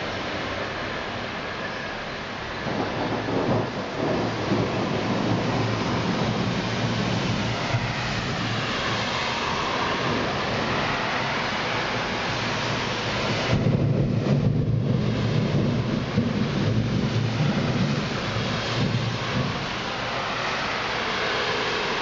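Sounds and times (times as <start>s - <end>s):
car swishing past on wet road: 0.0s - 22.0s
rain hissing: 0.0s - 22.0s.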